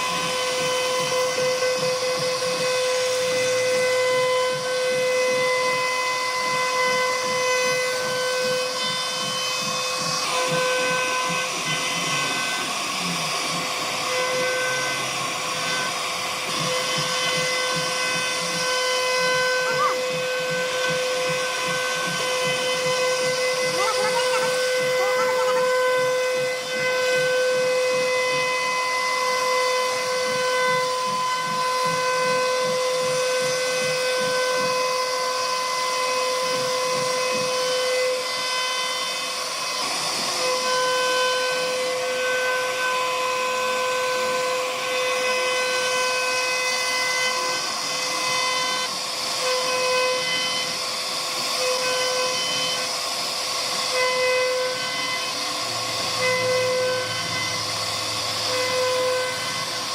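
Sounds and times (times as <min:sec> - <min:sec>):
bit cutting wood hissing: 0:00.0 - 0:59.9
router spindle whine: 0:00.0 - 0:59.9.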